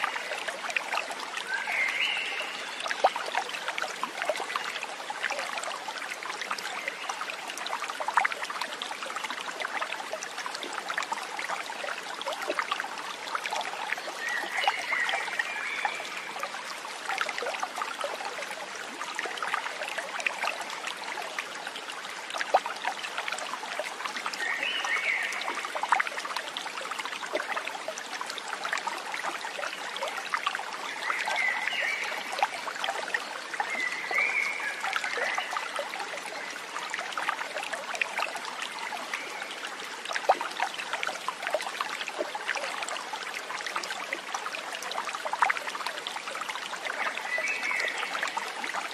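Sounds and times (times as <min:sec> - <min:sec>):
stream splashing over stones: 0:00.0 - 0:48.9
water drips and plops: 0:00.0 - 0:48.9.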